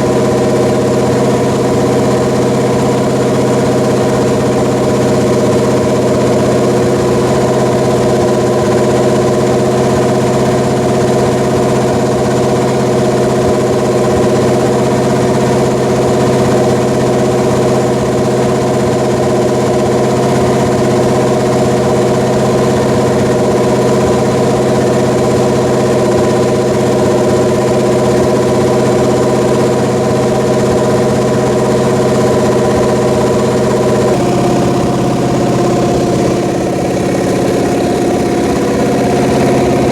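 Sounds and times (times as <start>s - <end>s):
engine running at fast idle: 0.0s - 39.9s.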